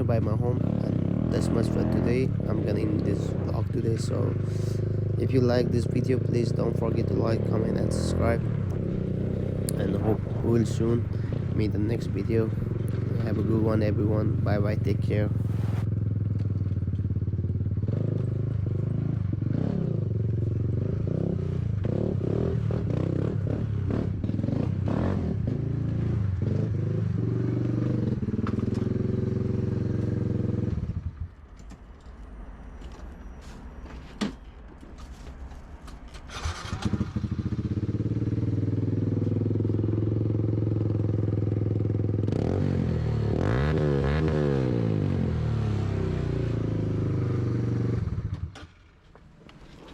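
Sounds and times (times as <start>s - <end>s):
motorcycle engine running: 0.0s - 31.2s, 36.4s - 48.4s.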